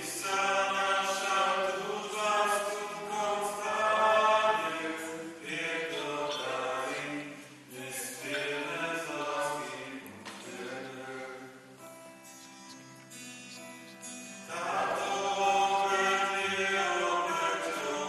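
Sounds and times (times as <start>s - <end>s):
voices singing a hymn: 0.0s - 11.6s, 14.2s - 18.0s.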